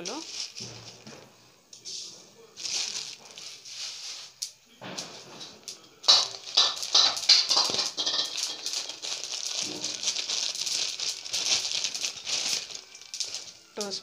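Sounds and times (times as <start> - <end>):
seeds crackling while roasting: 0.0 - 14.0.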